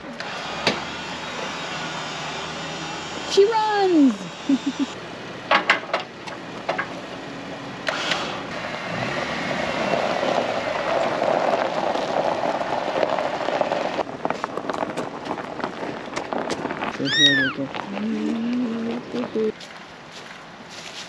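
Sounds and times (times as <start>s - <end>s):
engine running: 0.0s - 20.3s.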